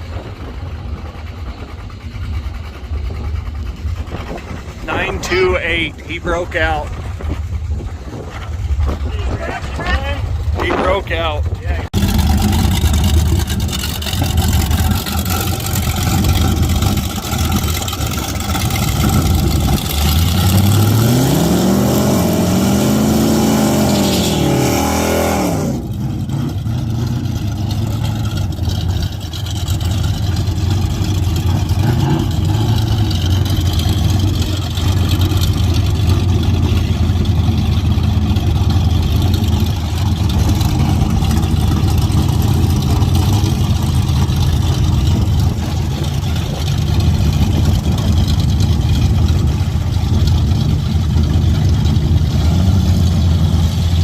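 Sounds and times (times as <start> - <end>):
car engines running: 0.0 - 54.0
low engine drone: 0.0 - 54.0
engine revving: 4.1 - 54.0.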